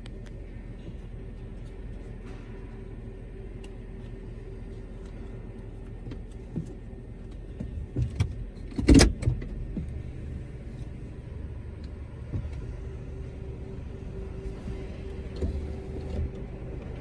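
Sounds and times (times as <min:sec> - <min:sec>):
car wash low hum: 0:00.0 - 0:17.0.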